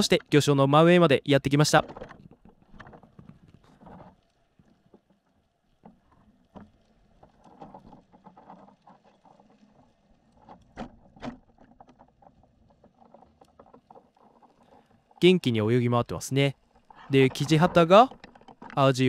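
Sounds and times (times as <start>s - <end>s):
faint underwater sound: 0.0s - 19.0s.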